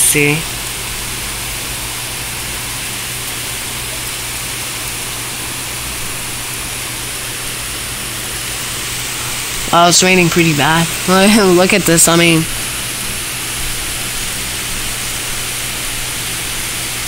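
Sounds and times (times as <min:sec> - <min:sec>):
heavy rain on leafy trees: 0:00.0 - 0:17.0.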